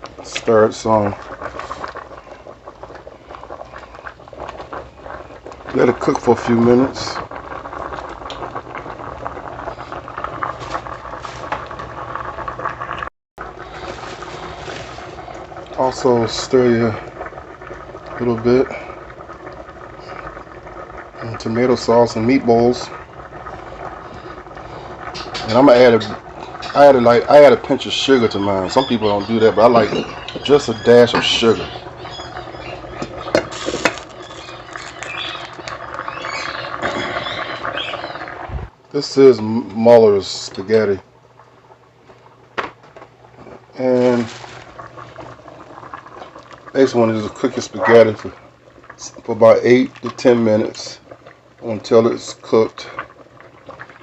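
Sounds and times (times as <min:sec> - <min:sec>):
water boiling and bubbling: 0:00.0 - 0:54.0.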